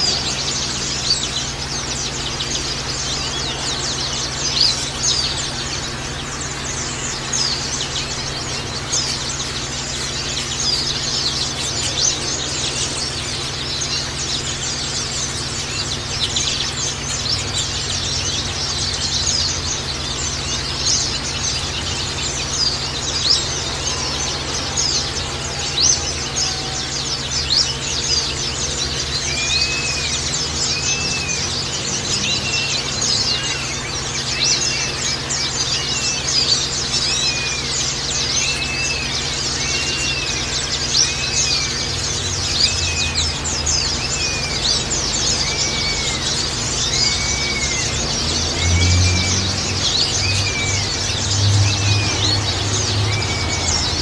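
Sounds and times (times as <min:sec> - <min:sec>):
birds chattering in high chirps: 0:00.0 - 0:54.0.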